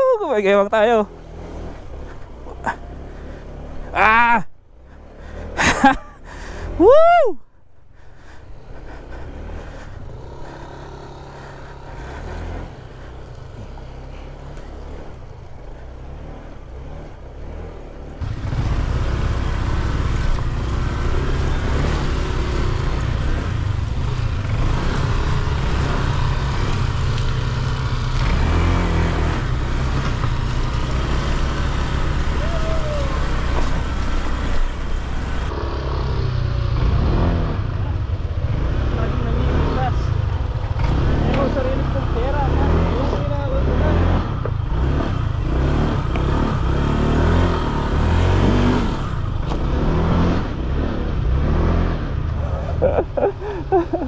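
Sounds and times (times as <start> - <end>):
motor scooter engine: 7.9 - 54.0.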